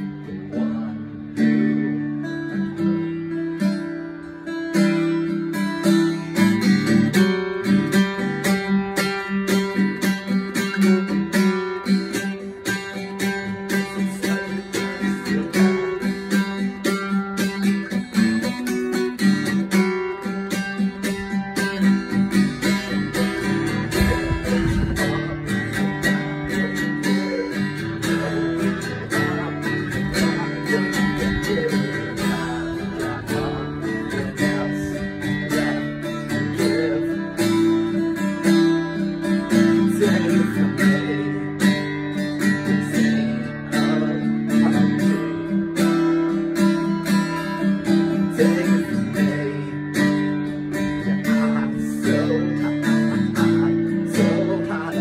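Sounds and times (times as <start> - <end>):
acoustic guitar picked and strummed: 0.0 - 55.0.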